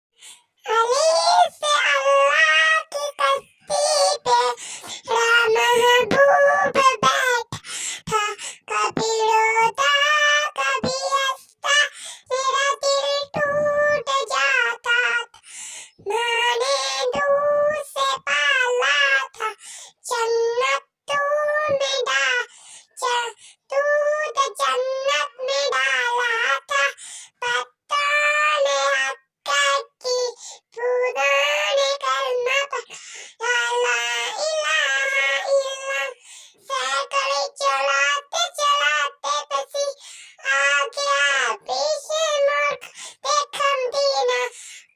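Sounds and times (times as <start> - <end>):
high-pitched childlike singing: 0.4 - 44.9.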